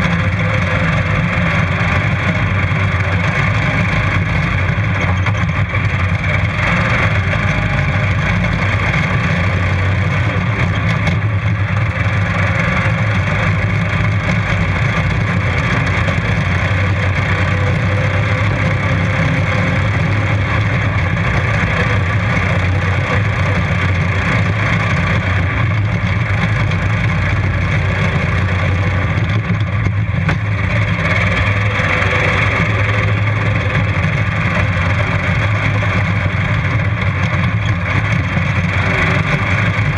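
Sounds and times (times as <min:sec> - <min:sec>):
ride-on lawn mower engine: 0:00.0 - 0:39.9.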